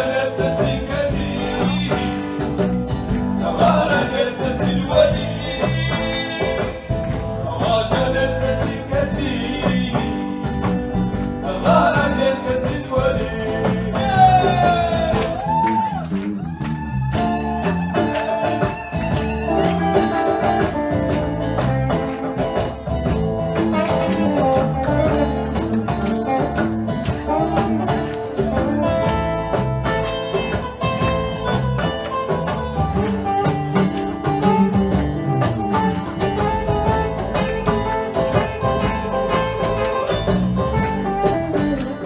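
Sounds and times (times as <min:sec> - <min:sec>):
live band with guitars and drum: 0:00.0 - 0:42.0.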